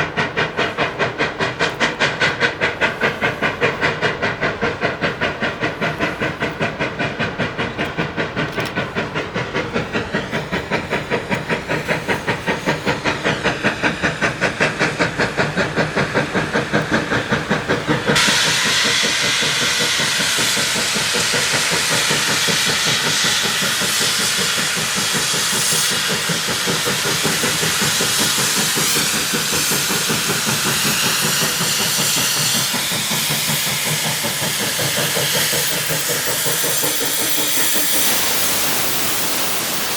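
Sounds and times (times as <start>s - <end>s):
loud hiss of escaping steam: 0.0s - 39.9s
steam locomotive exhaust chuffs: 0.0s - 39.9s.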